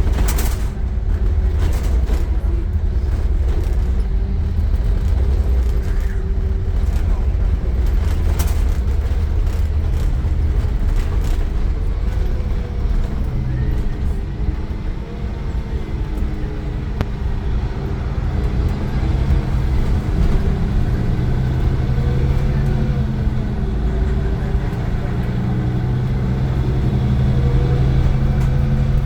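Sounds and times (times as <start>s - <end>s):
bus diesel engine drone: 0.0s - 29.0s.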